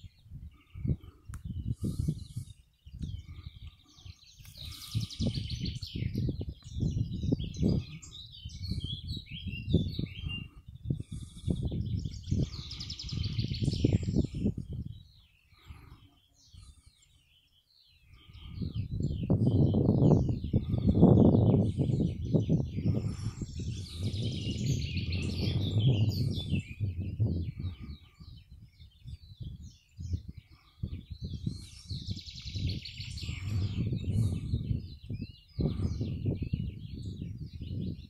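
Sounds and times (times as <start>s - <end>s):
wind gusts on microphone: 0.0s - 17.0s, 18.1s - 38.0s
songbirds singing: 0.0s - 38.0s.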